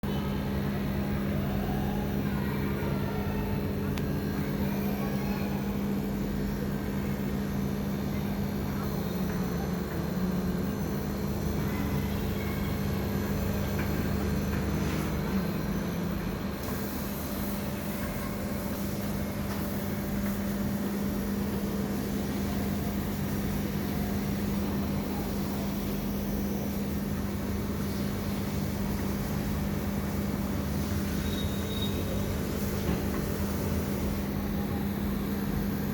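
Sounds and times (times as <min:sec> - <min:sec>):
air conditioner humming: 0:00.0 - 0:35.9.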